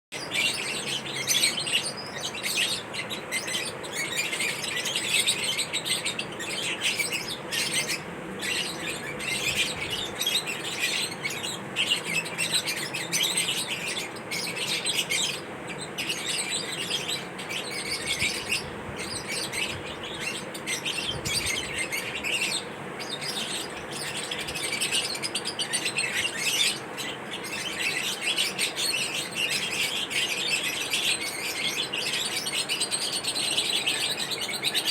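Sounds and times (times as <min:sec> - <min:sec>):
lovebirds chirping: 0:00.2 - 0:34.9.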